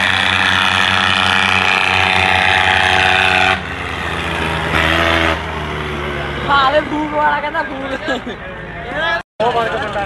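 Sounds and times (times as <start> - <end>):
tractor engines running at high revs: 0.0 - 8.8, 9.4 - 10.0.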